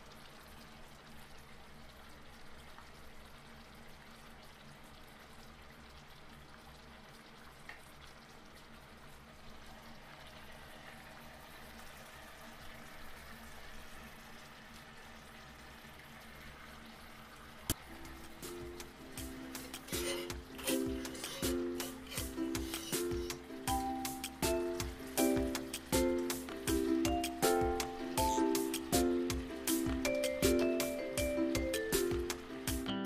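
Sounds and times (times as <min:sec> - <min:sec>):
congee bubbling in pot: 0:00.0 - 0:28.2.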